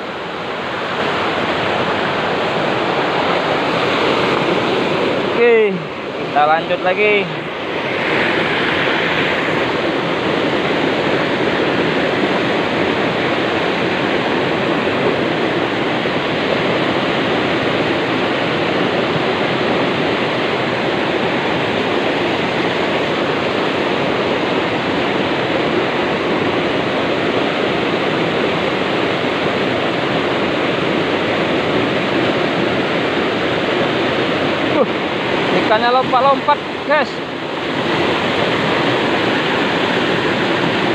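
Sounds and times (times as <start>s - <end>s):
river water rushing over weir: 0.0s - 40.9s.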